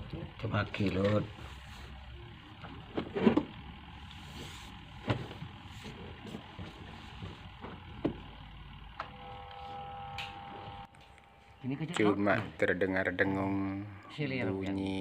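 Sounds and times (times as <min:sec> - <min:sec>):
washing machine motor humming: 0:00.0 - 0:12.6.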